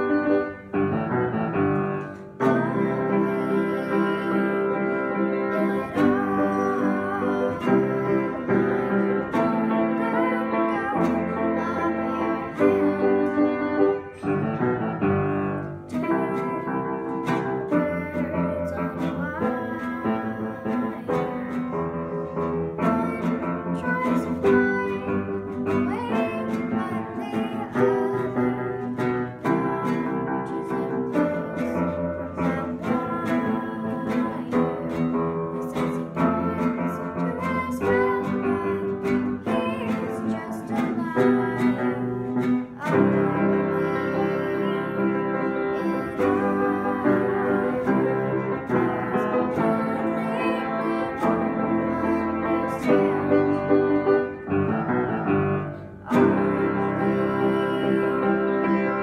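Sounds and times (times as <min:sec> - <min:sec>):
girl singing: 0:00.0 - 0:00.9, 0:01.5 - 0:54.6, 0:55.2 - 0:59.0
strummed classical guitar: 0:00.0 - 0:59.0
upright piano: 0:00.0 - 0:59.0.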